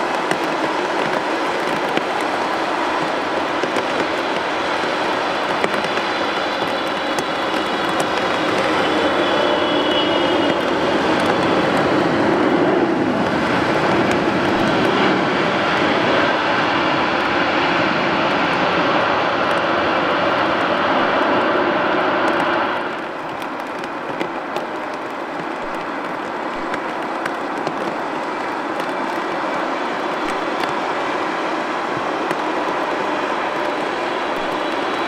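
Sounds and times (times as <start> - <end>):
high jet whine: 0.0 - 35.0
jet engines roaring: 0.0 - 35.0.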